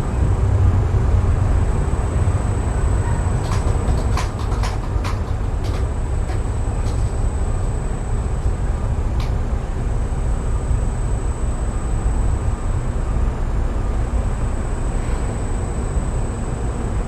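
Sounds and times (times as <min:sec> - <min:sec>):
high steady whine: 0:00.0 - 0:17.0.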